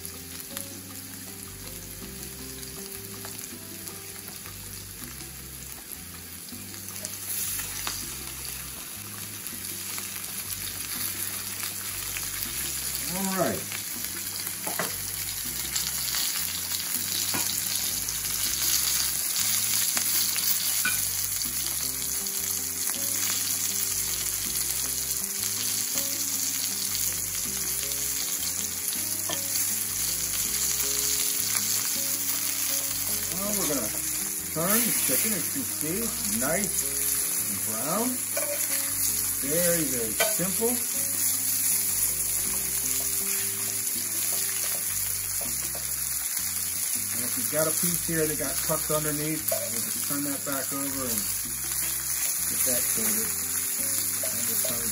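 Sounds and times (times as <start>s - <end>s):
chicken sizzling in a skillet: 0.0s - 54.9s.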